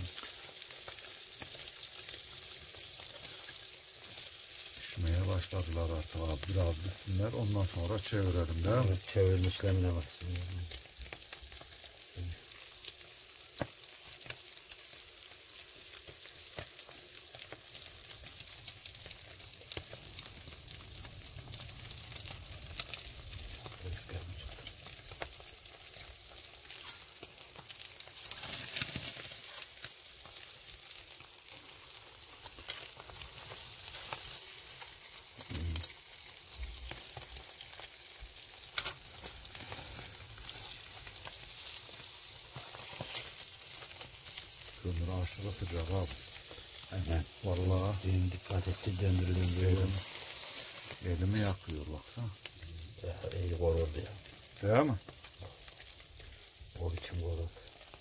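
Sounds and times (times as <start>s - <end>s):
crackles and pops: 0.0s - 58.0s
fish sizzling on a grill: 0.0s - 58.0s.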